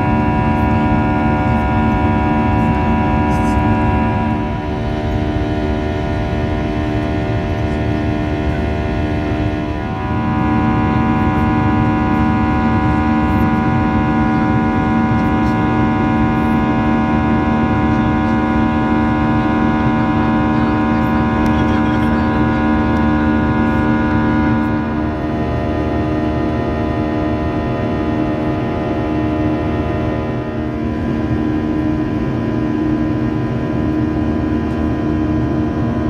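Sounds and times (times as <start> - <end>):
jet engines droning in cabin: 0.0 - 36.0.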